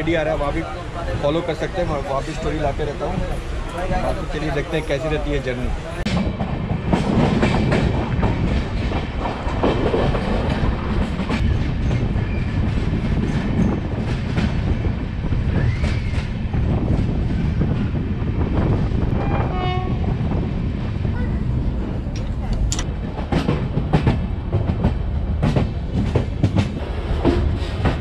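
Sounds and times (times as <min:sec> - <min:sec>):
train wheels and wind rumbling: 0:00.0 - 0:28.0.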